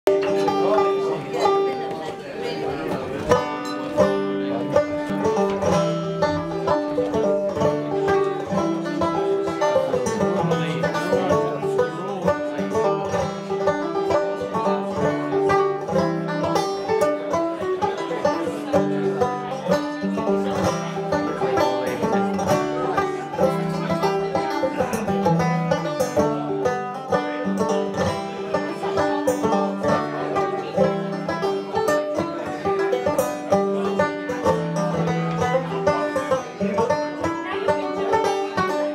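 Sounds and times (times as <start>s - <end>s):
banjo plucked notes: 0.0s - 38.9s.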